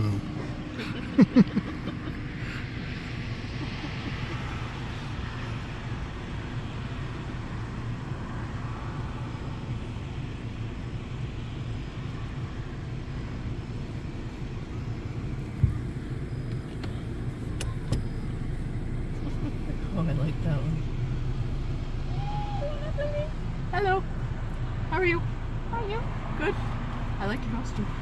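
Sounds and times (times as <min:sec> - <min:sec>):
car wash rumbling: 0:00.0 - 0:28.0.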